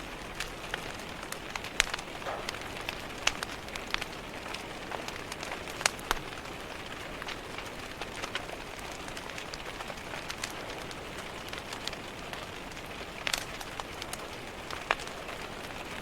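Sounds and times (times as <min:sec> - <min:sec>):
rain hiss: 0:00.0 - 0:16.0
wood fire crackling and popping: 0:00.0 - 0:16.0.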